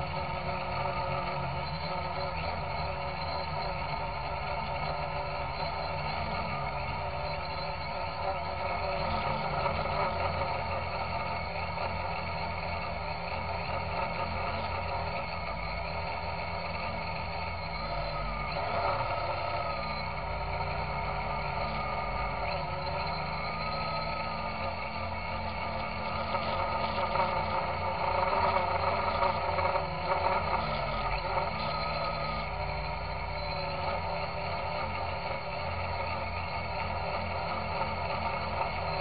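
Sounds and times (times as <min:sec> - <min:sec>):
quadcopter motors whining: 0:00.0 - 0:39.0.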